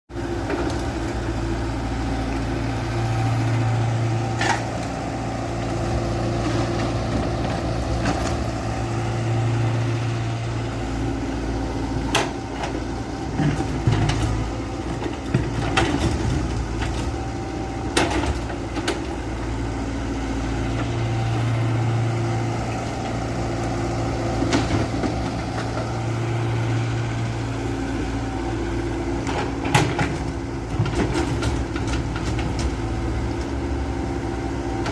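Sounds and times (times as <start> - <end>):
heavy machinery humming: 0.1 - 34.9.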